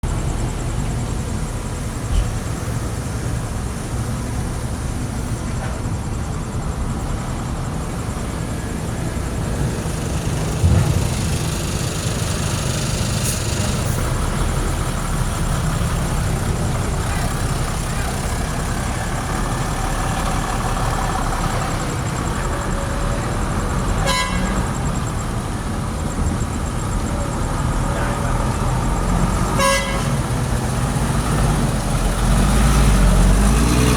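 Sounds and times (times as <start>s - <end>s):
engine rumbling: 0.0s - 33.9s.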